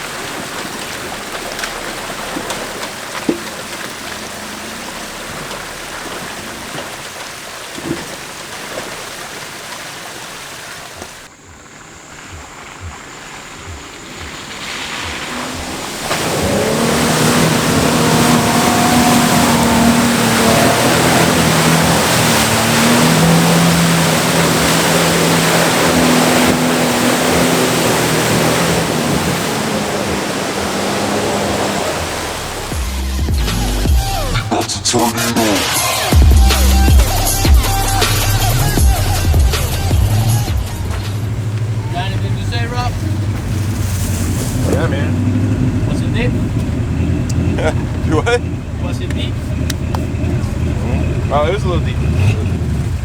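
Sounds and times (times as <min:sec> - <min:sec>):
car engine running: 0:00.0 - 0:53.0
water and mud splashing: 0:00.0 - 0:53.0.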